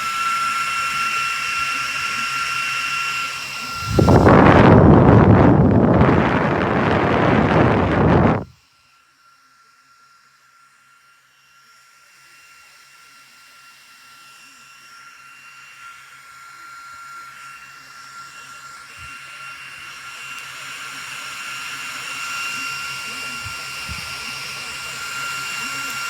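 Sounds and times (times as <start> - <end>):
portable fan running: 0.0 - 8.6, 13.2 - 26.0.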